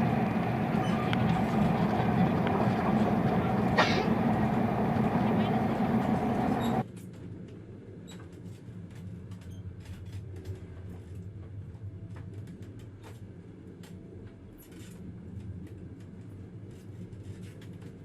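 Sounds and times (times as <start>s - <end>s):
faint clicks and creaks: 0.0s - 18.0s
train carriage rumble: 0.0s - 18.0s.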